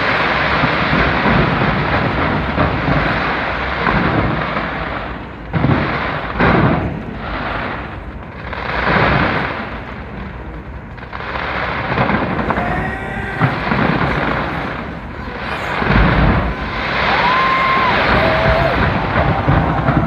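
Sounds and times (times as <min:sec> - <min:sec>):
fireworks bursts: 0:00.0 - 0:20.0
loud fireworks booms: 0:00.0 - 0:20.0.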